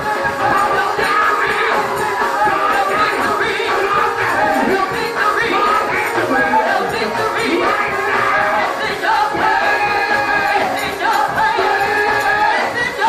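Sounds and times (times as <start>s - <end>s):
gospel choir singing over music: 0.0s - 13.0s.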